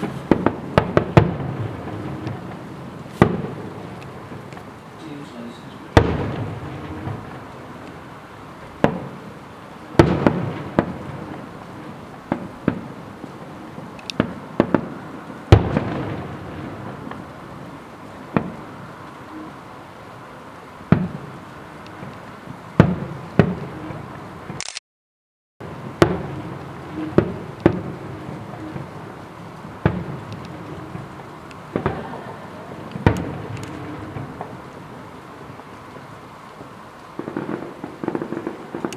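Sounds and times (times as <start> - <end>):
fireworks banging: 0.0 - 24.6, 25.6 - 38.9.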